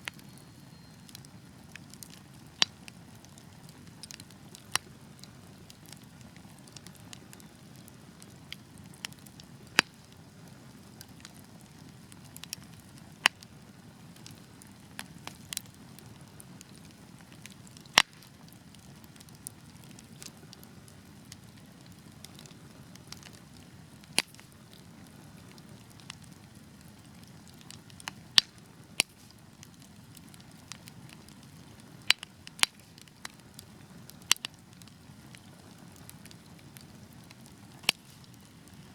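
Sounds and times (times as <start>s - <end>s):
fire crackling and popping: 0.0s - 38.9s
wood fire rumbling: 0.0s - 38.9s.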